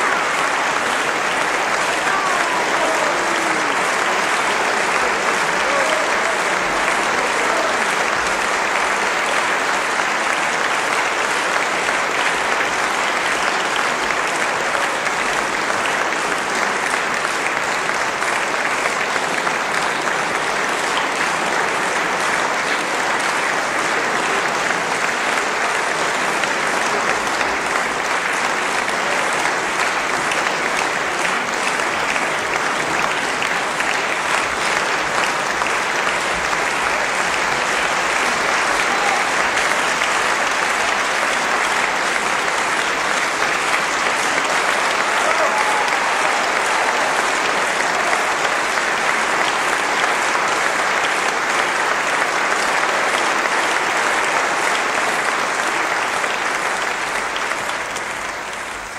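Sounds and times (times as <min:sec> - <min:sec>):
audience applauding: 0:00.0 - 0:58.9.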